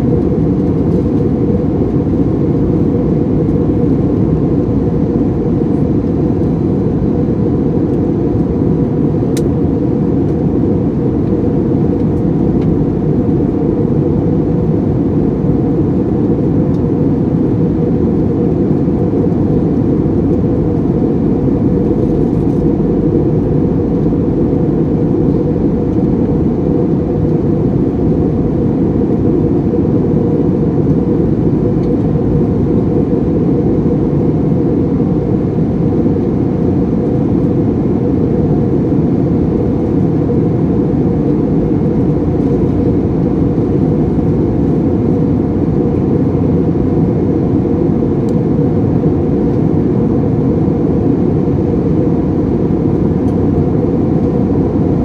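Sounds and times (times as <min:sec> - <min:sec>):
airplane cabin roar: 0:00.0 - 0:55.0
faint steady hum: 0:00.0 - 0:55.0.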